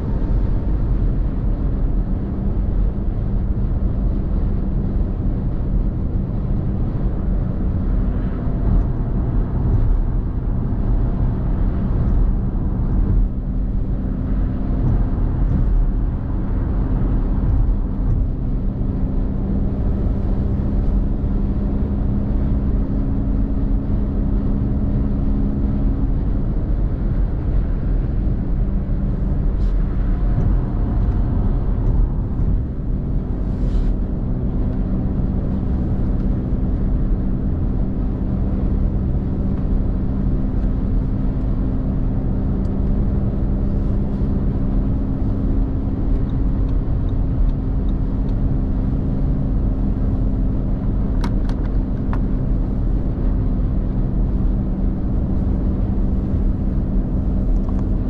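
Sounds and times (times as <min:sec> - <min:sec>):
low engine hum: 0:00.0 - 0:58.0
tyre and road noise: 0:00.0 - 0:58.0.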